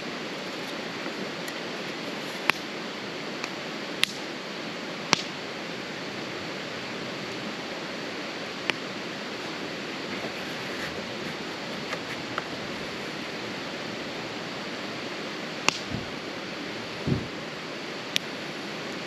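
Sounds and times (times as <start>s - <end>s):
campfire popping and hissing: 0.0s - 19.0s.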